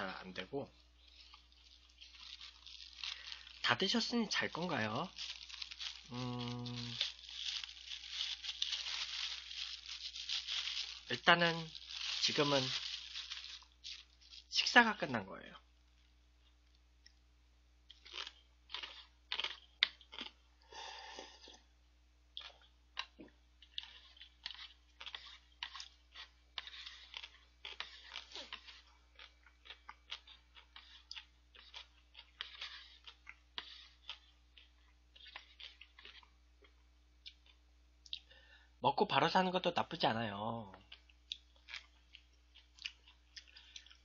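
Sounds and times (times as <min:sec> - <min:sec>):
person chewing crunchy food: 0:00.7 - 0:14.5, 0:17.9 - 0:21.6, 0:22.4 - 0:38.3, 0:40.8 - 0:44.0.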